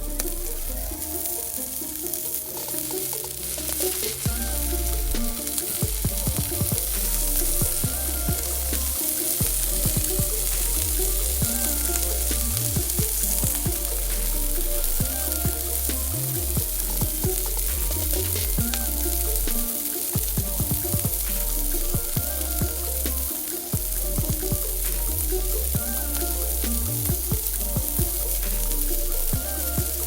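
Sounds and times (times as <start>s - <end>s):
background music: 0.0s - 30.0s.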